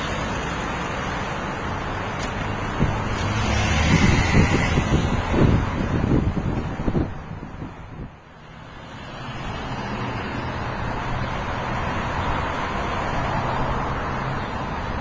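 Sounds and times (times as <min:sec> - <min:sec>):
road traffic rushing past: 0:00.0 - 0:15.0.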